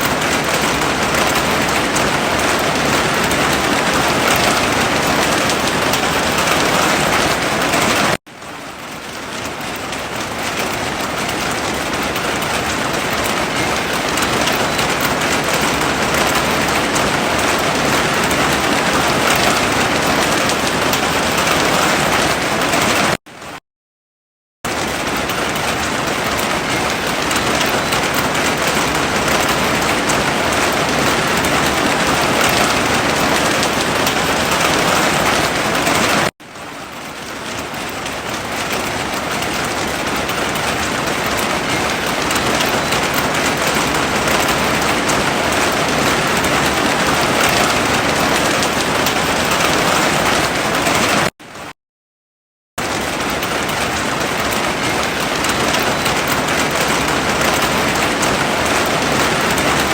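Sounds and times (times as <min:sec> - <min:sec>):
heavy rain falling: 0:00.0 - 0:23.6, 0:24.7 - 0:51.3, 0:52.8 - 0:59.9.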